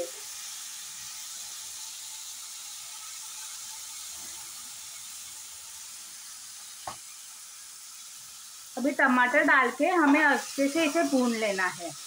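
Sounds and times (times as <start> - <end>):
tomatoes sizzling in hot oil: 0.0 - 12.0.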